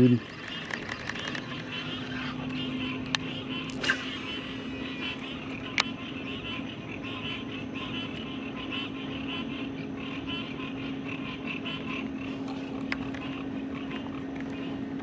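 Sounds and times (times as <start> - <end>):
frogs chirping: 0.0 - 15.0
steady low hum: 0.0 - 15.0.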